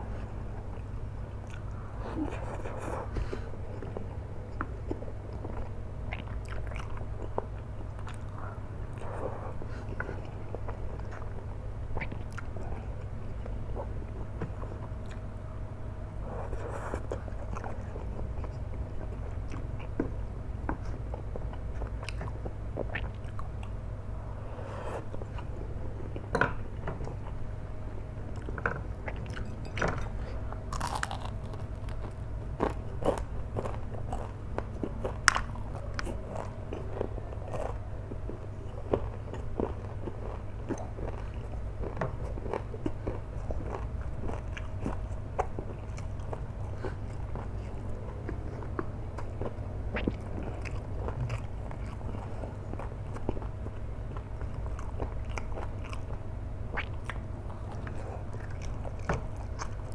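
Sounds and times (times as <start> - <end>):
steady low hum: 0.0 - 59.9
chewing noodles: 0.1 - 15.3, 16.2 - 23.8, 28.3 - 59.9.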